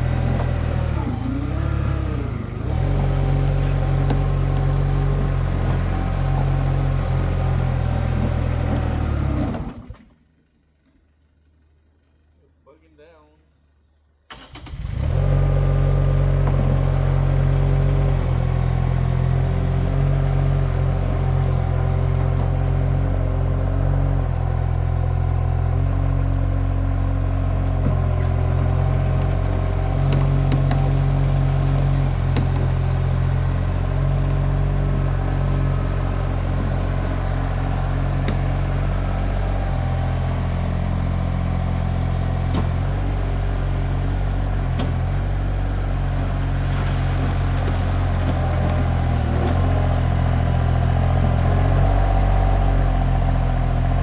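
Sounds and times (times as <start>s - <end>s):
engine droning: 0.0s - 11.7s, 14.3s - 54.0s.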